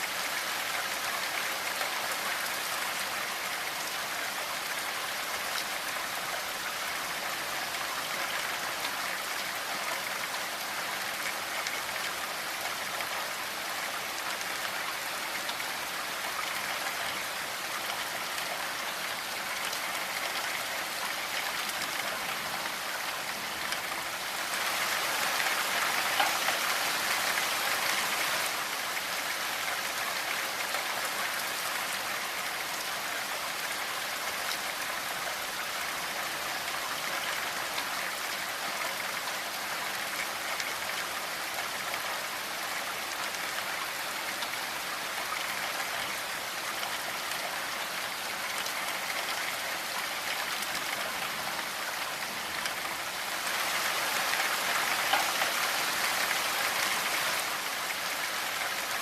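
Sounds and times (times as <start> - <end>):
steady rainfall patter: 0.0 - 59.0.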